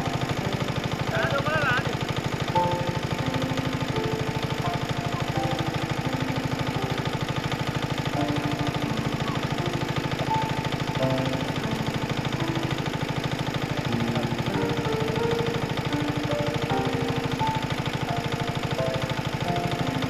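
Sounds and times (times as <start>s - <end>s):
engine knocking: 0.0s - 20.0s.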